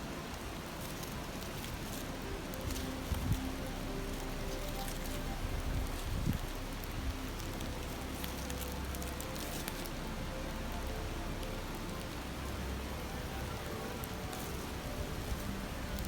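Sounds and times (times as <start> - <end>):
campfire crackling: 0.0 - 16.0
stream babbling: 0.0 - 16.0.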